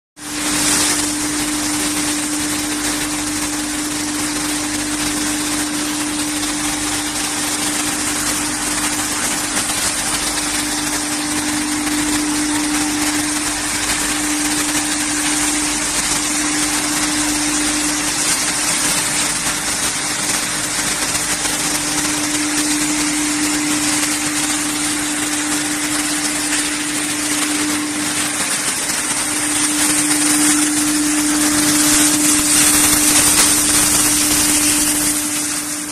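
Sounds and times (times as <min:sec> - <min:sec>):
constant machine hum: 0:00.2 - 0:35.9
hammer mill crushing wood chips: 0:00.2 - 0:35.9.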